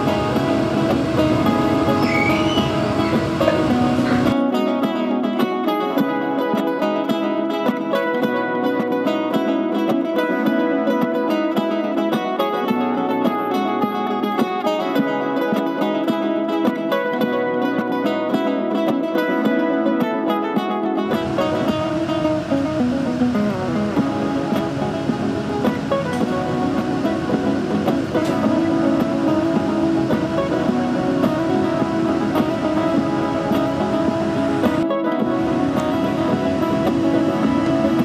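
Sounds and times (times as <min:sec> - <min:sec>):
plucked acoustic guitar: 0:00.0 - 0:38.0.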